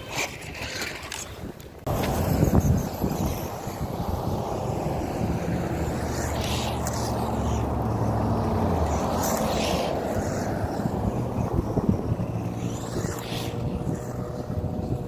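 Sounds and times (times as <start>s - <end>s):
toy truck driving rumble: 0.0s - 15.0s
wind on microphone: 0.0s - 15.0s.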